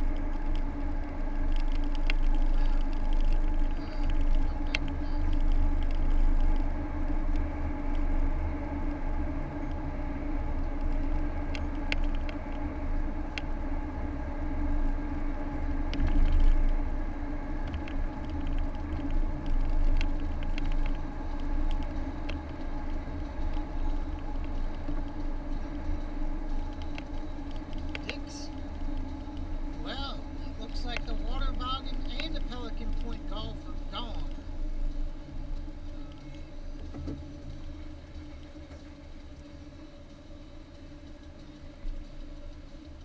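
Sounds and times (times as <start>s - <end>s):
car engine and tyres rumbling: 0.0s - 43.0s
sharp ticks and rattles: 0.0s - 43.0s.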